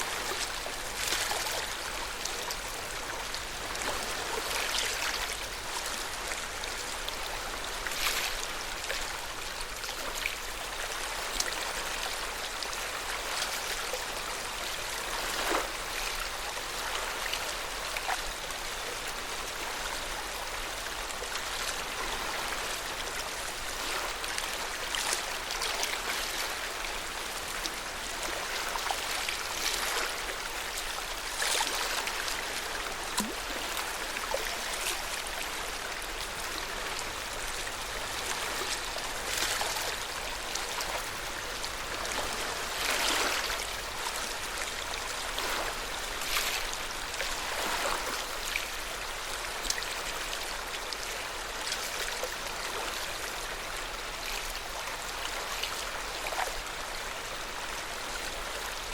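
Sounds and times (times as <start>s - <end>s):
small water splashes: 0.0s - 14.0s, 14.7s - 56.7s
lake water lapping at shore: 0.0s - 57.0s.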